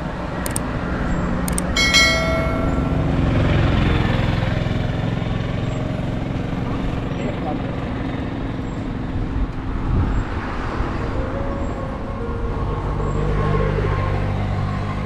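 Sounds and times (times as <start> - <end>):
road traffic: 0.0 - 15.0
vehicle engine passing close: 0.0 - 15.0.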